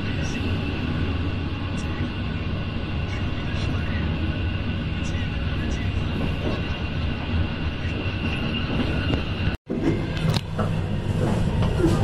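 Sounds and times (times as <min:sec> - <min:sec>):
train rumbling and rattling: 0:00.0 - 0:12.0.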